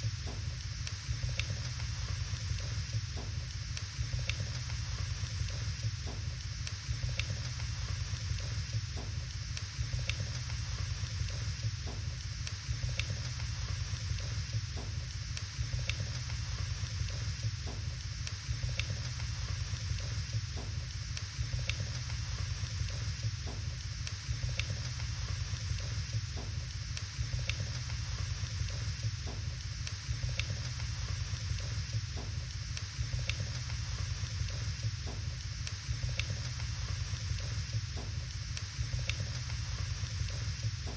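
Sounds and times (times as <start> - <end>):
fire hissing and rumbling: 0.0 - 40.9.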